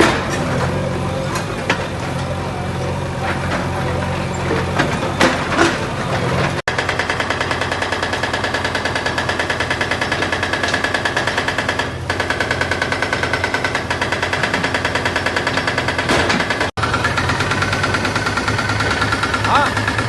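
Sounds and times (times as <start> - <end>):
heavy engine running: 0.0 - 20.0.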